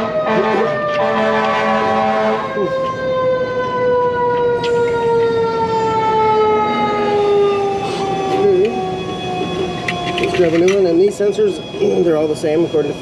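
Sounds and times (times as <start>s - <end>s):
emergency vehicle siren wailing: 0.0s - 13.0s.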